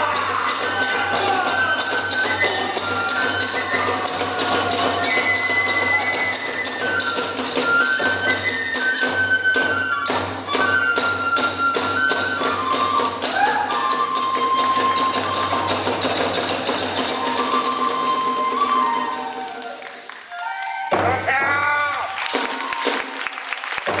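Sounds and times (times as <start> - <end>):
drums beating: 0.0 - 20.0, 20.8 - 24.0
small hand cymbals: 0.0 - 20.3
bamboo flute melody: 0.0 - 24.0.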